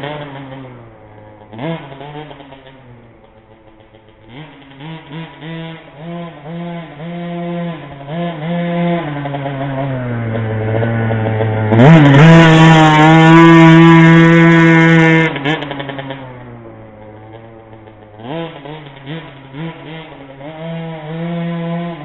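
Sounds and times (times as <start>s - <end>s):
small two-stroke engine revving: 0.0s - 22.0s.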